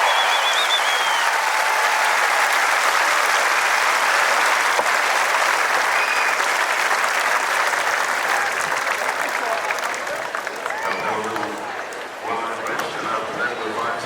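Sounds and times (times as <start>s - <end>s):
large crowd applauding: 0.0s - 12.8s.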